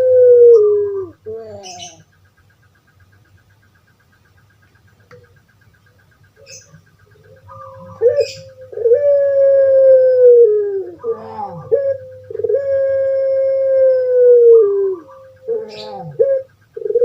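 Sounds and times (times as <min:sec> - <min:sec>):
dove cooing: 0:00.0 - 0:02.1, 0:05.0 - 0:17.0.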